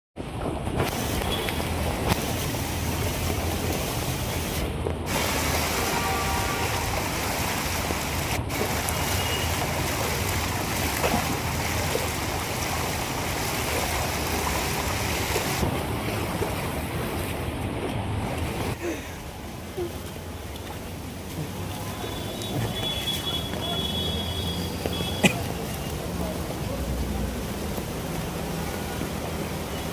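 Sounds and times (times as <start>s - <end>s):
rain: 0.2s - 29.9s
running water: 0.8s - 29.9s.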